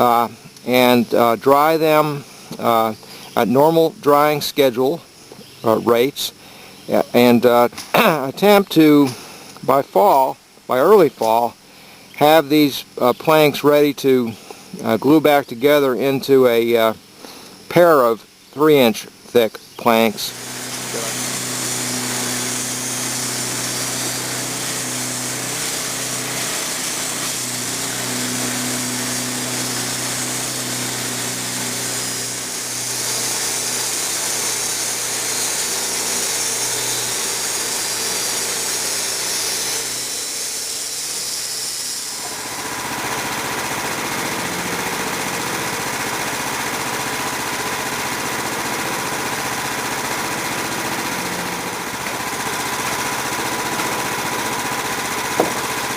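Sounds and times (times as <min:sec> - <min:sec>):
sawmill engine running: 0:00.0 - 0:55.9.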